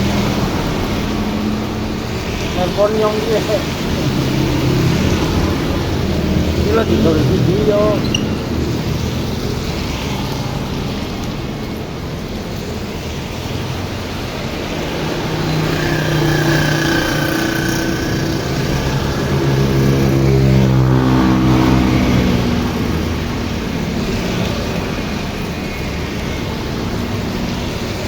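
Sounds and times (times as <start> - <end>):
vehicle passing by: 0.0 - 11.6, 12.6 - 28.0
steady rain: 0.0 - 28.0.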